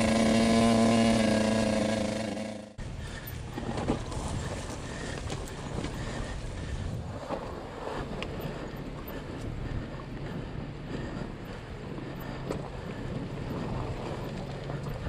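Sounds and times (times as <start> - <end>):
off-road vehicle rumble: 0.0 - 15.0
wind buffeting microphone: 2.8 - 15.0.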